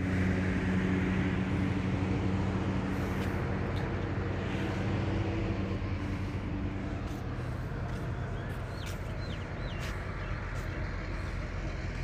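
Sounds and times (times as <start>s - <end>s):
road and wind noise: 0.0s - 12.0s
vehicle engine hum: 0.0s - 12.0s.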